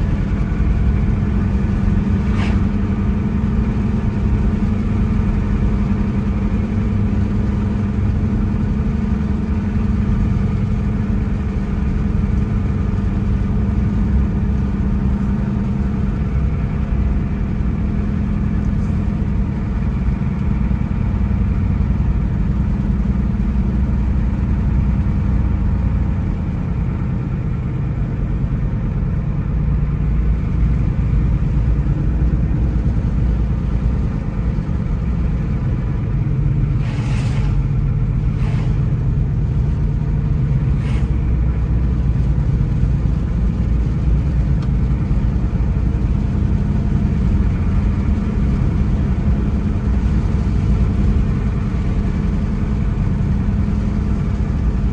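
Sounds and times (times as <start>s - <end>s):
car engine hum: 0.0s - 54.9s
tyre road rumble: 0.0s - 54.9s.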